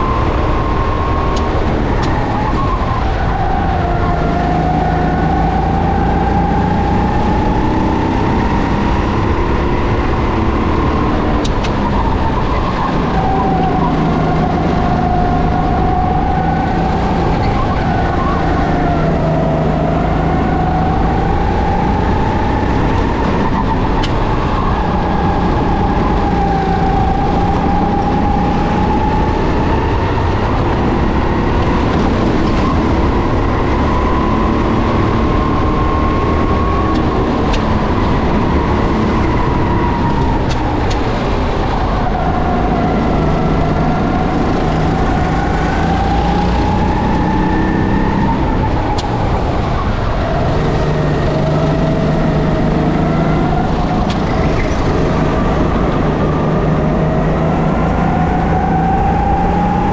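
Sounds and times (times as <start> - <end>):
racing kart engine: 0.0 - 59.9.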